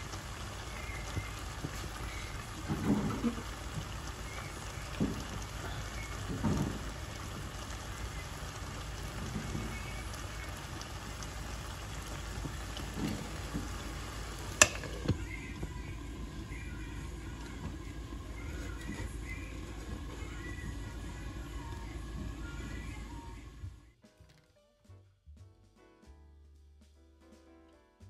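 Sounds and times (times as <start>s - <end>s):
food sizzling in a pot: 0.0s - 23.6s.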